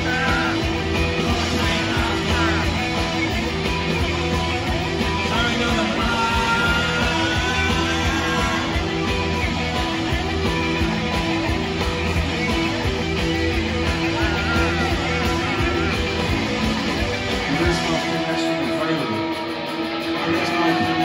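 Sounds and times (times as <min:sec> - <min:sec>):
rock band playing: 0:00.0 - 0:21.0
sliding guitar notes: 0:00.0 - 0:21.0.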